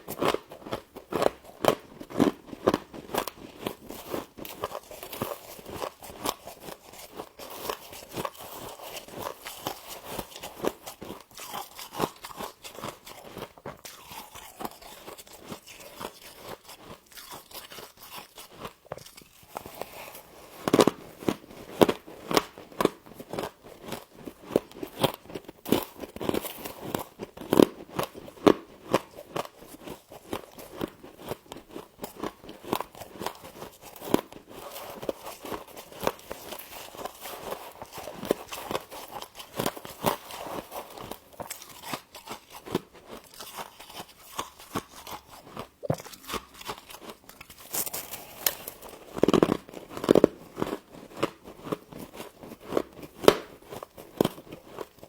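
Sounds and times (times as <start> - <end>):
frost being chewed crunching: 0.0 - 55.0.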